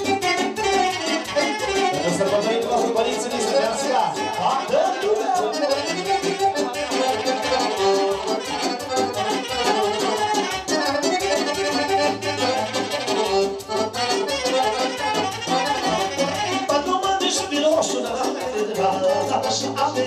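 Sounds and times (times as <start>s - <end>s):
accordion melody: 0.0s - 20.0s
folk dance music: 0.0s - 20.0s.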